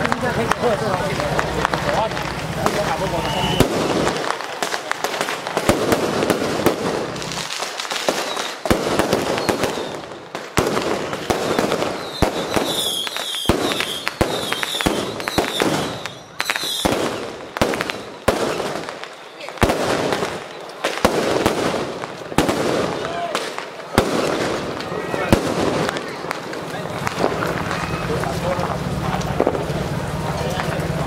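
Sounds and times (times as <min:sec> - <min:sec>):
crowd noise: 0:00.0 - 0:31.0
firecrackers banging and crackling: 0:00.0 - 0:31.0.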